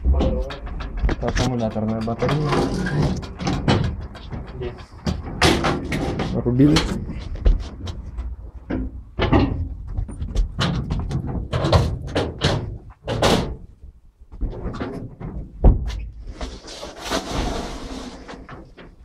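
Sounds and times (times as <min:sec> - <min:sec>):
metal knocks and clunks: 0:00.0 - 0:16.2.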